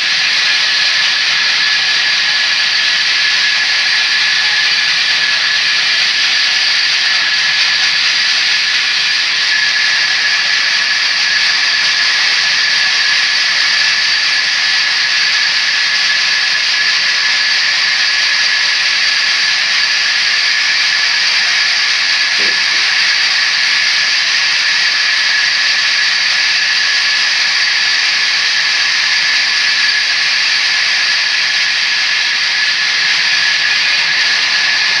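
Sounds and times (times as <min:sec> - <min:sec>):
band saw cutting log: 0:00.0 - 0:35.0.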